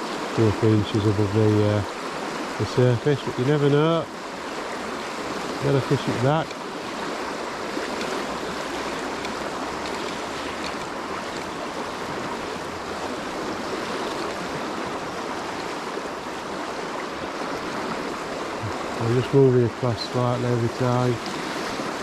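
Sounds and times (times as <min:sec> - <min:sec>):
fast river water rushing: 0:00.0 - 0:22.0.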